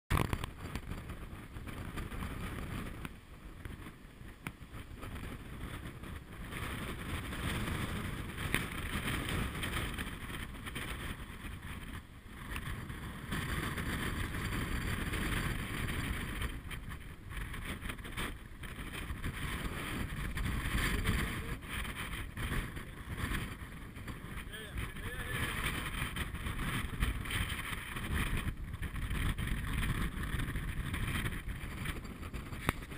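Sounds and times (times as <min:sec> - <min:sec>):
wind buffeting microphone: 0:00.1 - 0:32.9.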